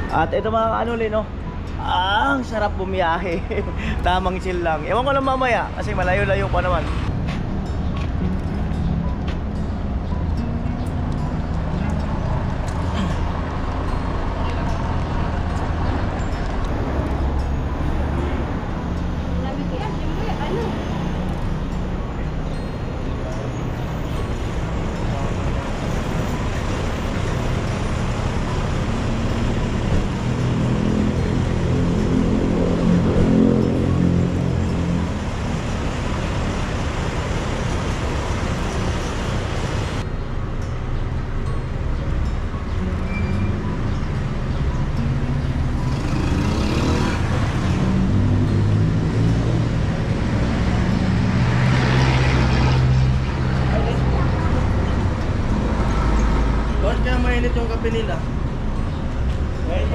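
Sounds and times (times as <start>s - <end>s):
road traffic noise: 0.0s - 59.9s
vehicle engine hum: 0.0s - 59.9s.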